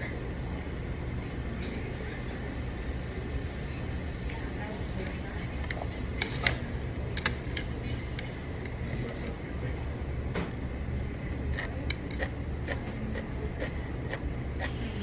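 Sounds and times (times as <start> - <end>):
restaurant room hum: 0.0 - 15.0.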